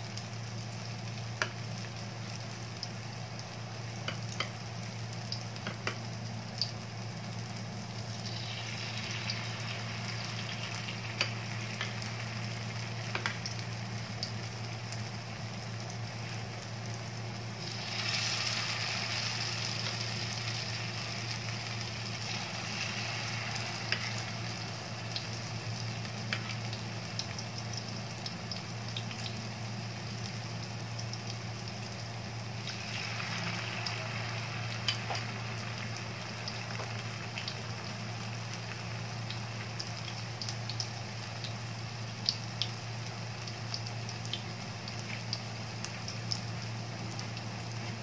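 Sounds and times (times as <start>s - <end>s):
batter frying in hot oil: 0.0s - 48.0s.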